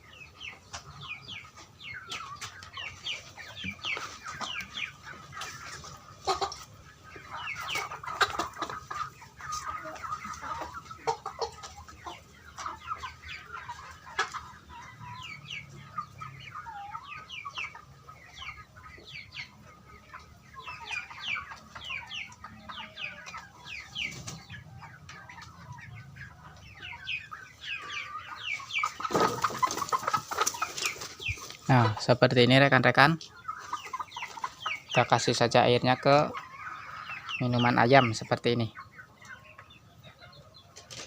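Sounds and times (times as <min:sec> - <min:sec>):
chicks peeping: 0:00.0 - 0:41.0
hens clucking: 0:00.0 - 0:41.0.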